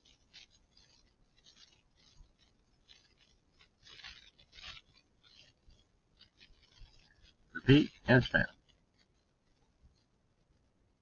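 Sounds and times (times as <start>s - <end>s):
faint scratchy rustles: 0.0s - 11.0s.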